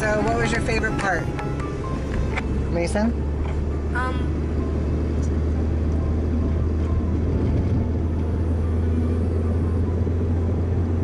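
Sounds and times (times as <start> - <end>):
car interior road and engine noise: 0.0 - 11.0.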